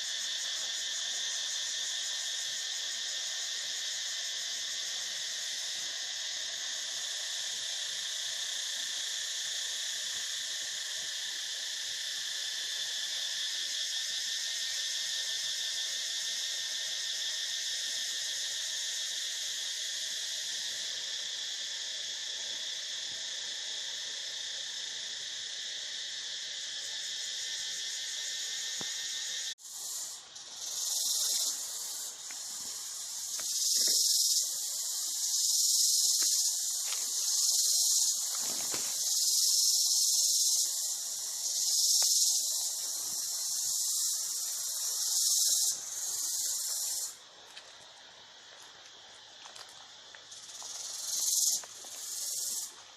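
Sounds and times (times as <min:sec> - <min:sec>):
high hiss: 0:00.0 - 0:52.9
insects chirring: 0:00.0 - 0:52.9.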